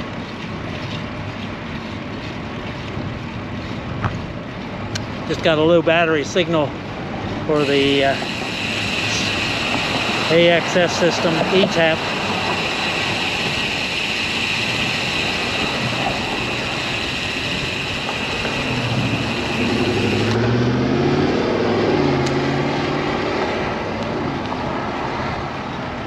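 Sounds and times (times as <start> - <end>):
motor vehicle passing: 0.0 - 26.0
wind and road noise: 0.0 - 26.0.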